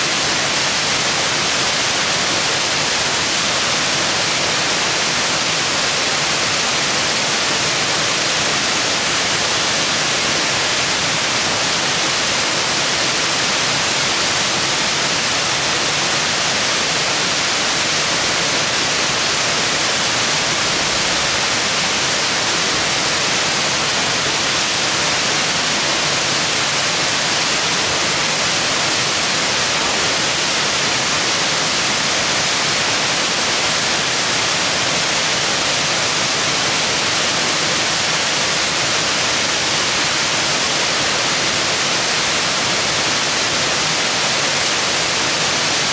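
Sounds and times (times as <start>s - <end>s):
water rushing over rocks: 0.0s - 45.9s.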